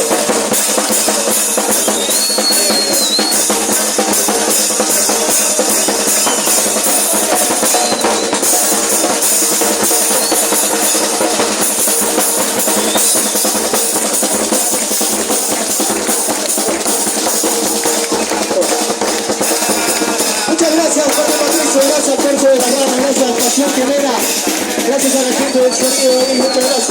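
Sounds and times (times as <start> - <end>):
drum rhythm with cymbals: 0.0 - 26.9.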